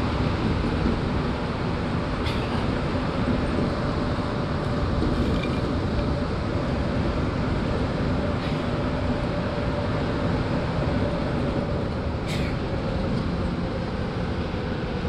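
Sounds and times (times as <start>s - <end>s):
subway train rumble and whine: 0.0s - 15.0s.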